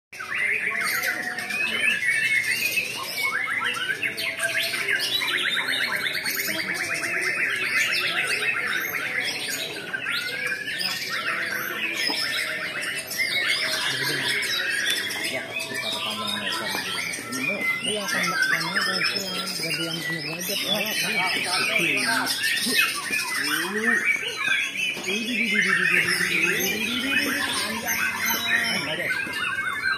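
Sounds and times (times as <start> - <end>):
birds singing: 0.2 - 29.9
fast repeated bird trill: 0.2 - 29.9.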